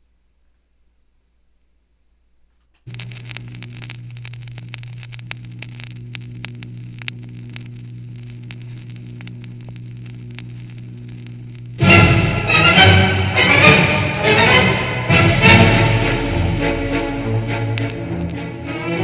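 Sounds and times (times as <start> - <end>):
steady low hum: 0.0 - 19.0
vinyl crackle and pops: 0.0 - 19.0.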